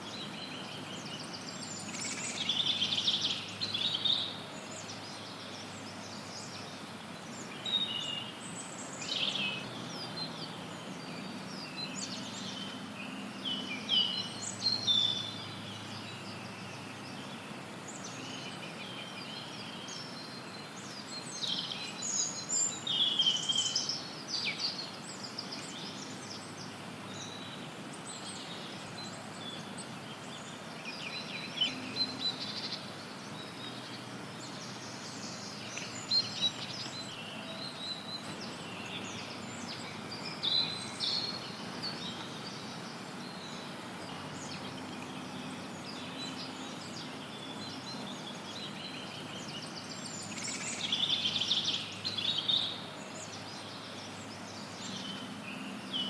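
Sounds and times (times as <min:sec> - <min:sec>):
songbirds chirping and singing: 0:00.0 - 0:56.0
steady background hiss: 0:00.0 - 0:56.0.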